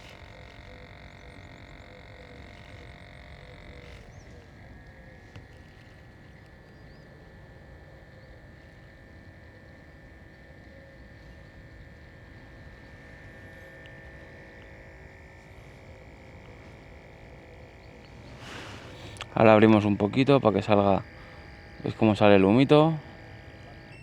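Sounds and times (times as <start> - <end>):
espresso maker pump whirring: 0.0 - 24.0.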